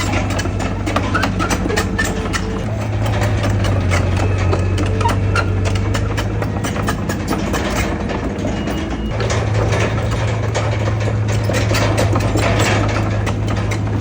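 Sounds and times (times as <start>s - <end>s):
diesel engine humming: 0.0s - 14.0s
metallic clanks and rattles: 0.0s - 14.0s.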